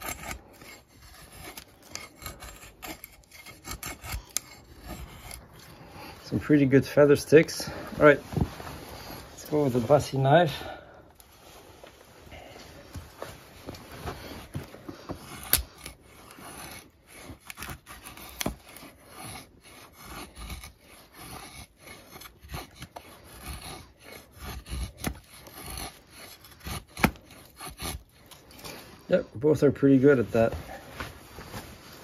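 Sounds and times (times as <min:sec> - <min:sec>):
knife scraping wood: 0:00.0 - 0:29.2.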